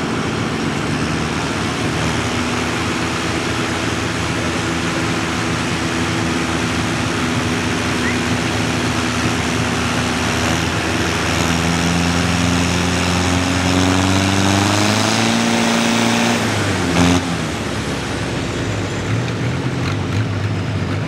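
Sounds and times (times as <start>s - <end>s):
tractor engine under heavy load: 0.0s - 21.0s.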